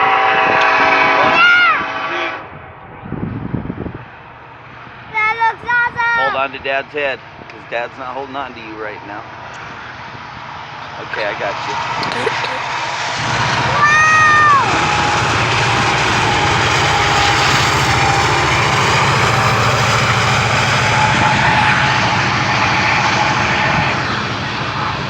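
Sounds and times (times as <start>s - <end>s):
train wheel and rail noise: 0.0s - 25.0s
locomotive diesel engines humming: 4.0s - 25.0s.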